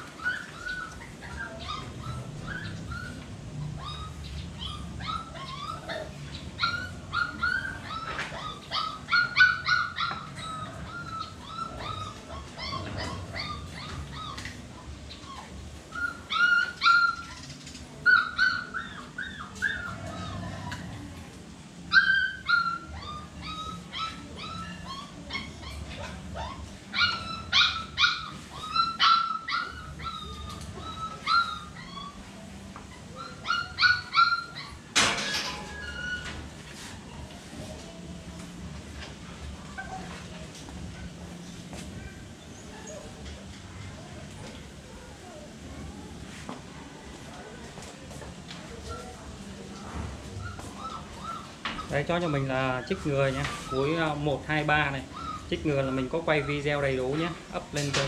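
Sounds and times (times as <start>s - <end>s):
puppies whimpering and yipping: 0.0s - 58.0s.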